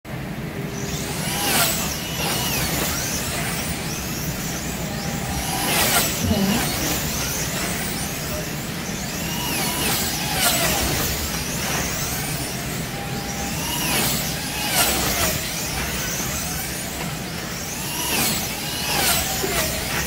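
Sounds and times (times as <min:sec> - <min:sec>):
slot car electric motors whining: 0:00.1 - 0:20.0.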